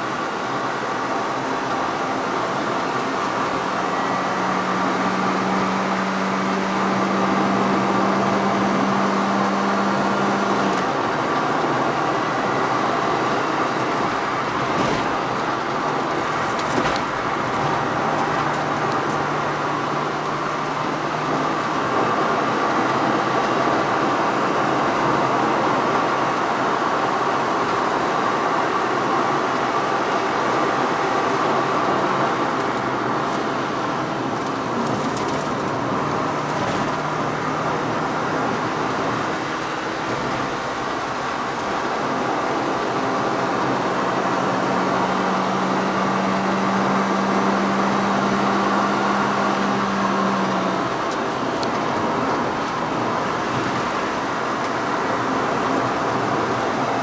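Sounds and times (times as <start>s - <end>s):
car engine running under load: 0.0s - 57.0s
tyre and road noise: 0.0s - 57.0s.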